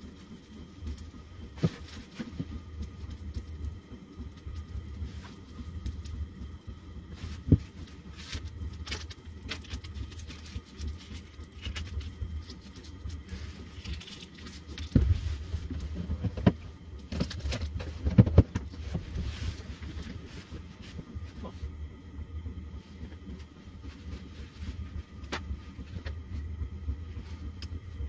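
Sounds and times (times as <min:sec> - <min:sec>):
camp stove rumble: 0:00.0 - 0:28.0.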